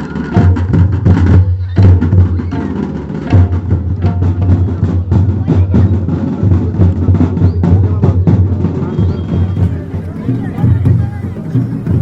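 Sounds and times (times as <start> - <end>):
drums beaten in fast rhythm: 0.0 - 12.0.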